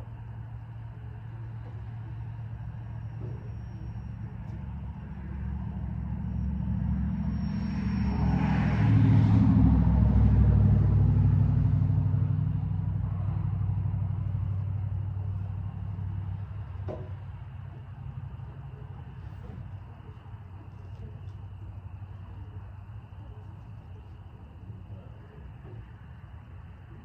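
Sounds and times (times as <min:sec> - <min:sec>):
vehicle engine passing: 0:01.2 - 0:23.4.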